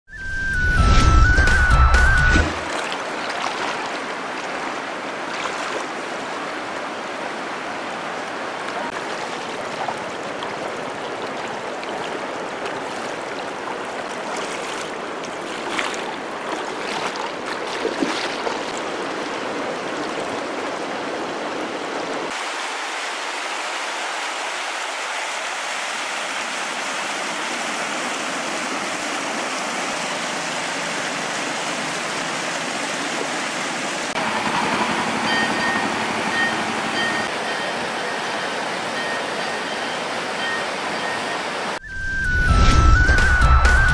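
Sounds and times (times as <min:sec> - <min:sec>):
floodwater rushing: 0:00.3 - 0:43.9.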